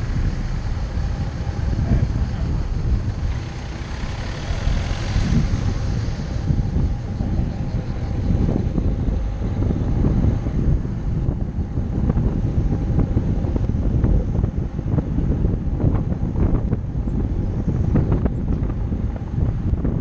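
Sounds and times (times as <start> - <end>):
road and engine rumble: 0.0 - 20.0
wind buffeting microphone: 0.0 - 20.0.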